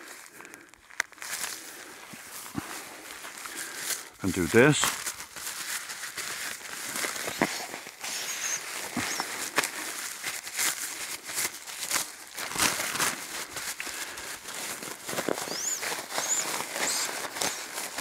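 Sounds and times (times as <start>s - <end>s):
nylon sack rustling: 0.0s - 18.0s.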